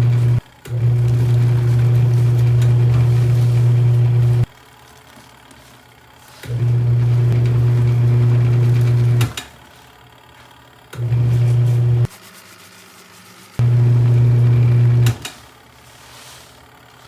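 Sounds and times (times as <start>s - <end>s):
washing machine motor humming: 0.0s - 12.1s, 13.6s - 16.0s.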